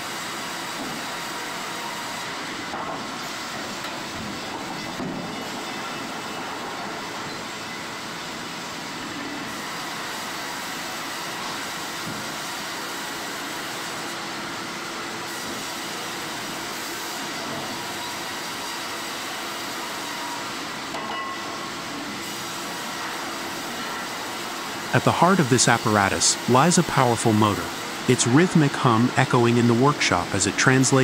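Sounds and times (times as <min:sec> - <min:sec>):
sawmill machinery running: 0:00.0 - 0:31.0.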